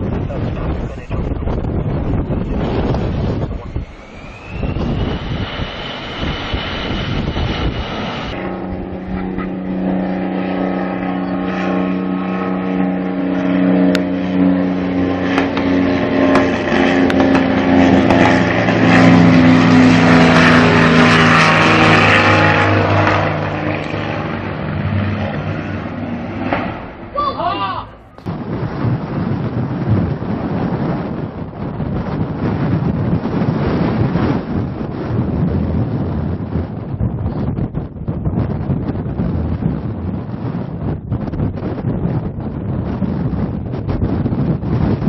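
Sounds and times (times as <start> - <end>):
airliner engine whine: 0.0 - 45.0
gusting wind: 0.0 - 45.0
military jet engines droning: 0.0 - 45.0.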